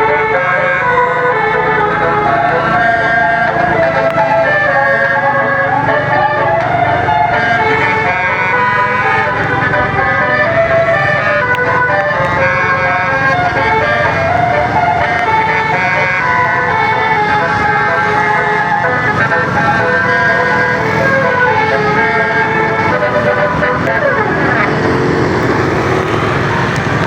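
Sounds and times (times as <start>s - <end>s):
bus air horns playing melody: 0.0s - 27.0s
engine and traffic rumble: 0.0s - 27.0s.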